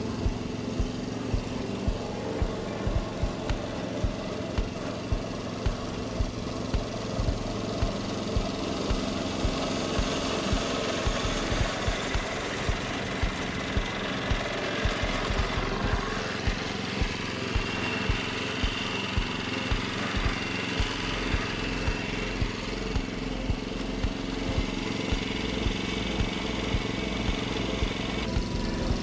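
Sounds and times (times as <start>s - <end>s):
reel mower running: 0.0s - 29.0s
sharp ticking: 0.0s - 29.0s.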